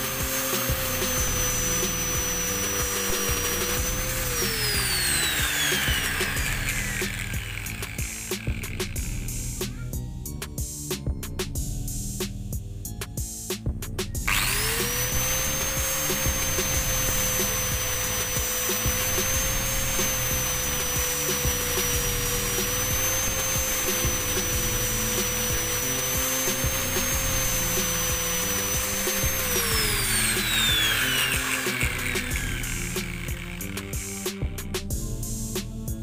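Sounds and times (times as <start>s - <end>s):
high-speed electric motor tool whine: 0.0s - 9.7s, 14.2s - 35.4s
background music: 0.0s - 36.0s.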